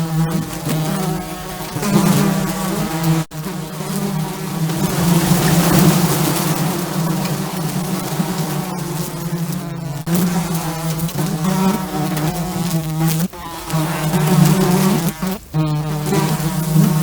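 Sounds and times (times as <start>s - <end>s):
flying insect buzzing: 0.0s - 17.0s.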